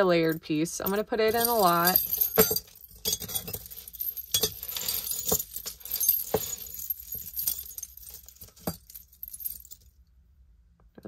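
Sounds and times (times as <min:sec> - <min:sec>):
metal chain necklaces jangling: 0:00.2 - 0:09.9.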